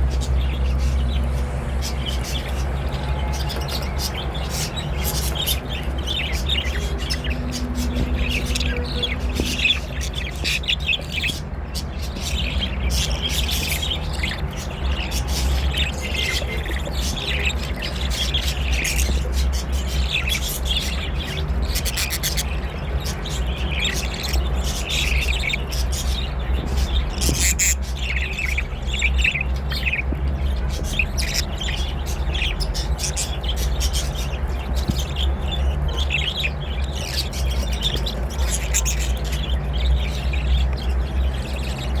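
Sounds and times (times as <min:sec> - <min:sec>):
budgerigars chattering and squawking: 0:00.0 - 0:42.0.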